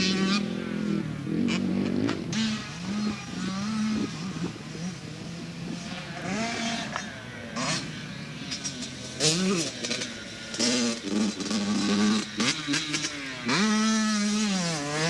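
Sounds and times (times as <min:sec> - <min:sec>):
two-stroke motocross bike revving: 0:00.0 - 0:15.0.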